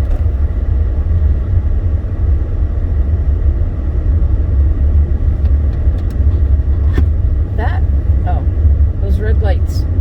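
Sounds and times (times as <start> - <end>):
car rumbling on snowy road: 0.0 - 10.0.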